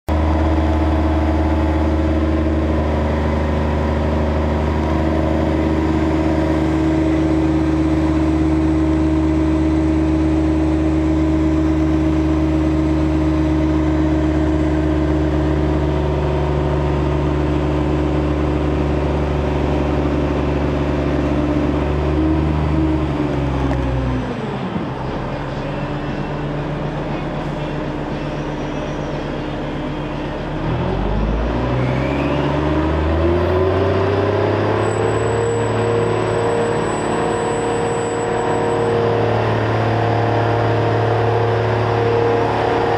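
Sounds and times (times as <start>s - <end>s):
crane diesel engine running: 0.1s - 42.9s.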